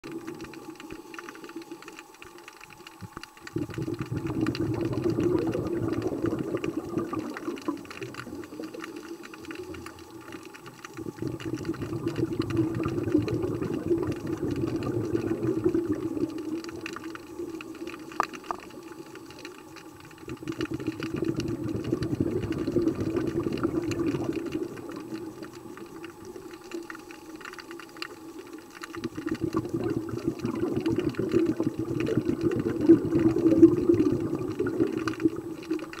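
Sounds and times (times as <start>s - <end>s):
diver exhaling gurgling bubbles: 3.0s - 36.0s.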